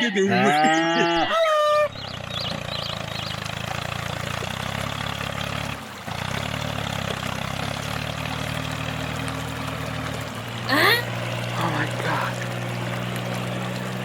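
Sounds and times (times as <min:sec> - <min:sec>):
tractor engine idling: 0:01.4 - 0:14.0.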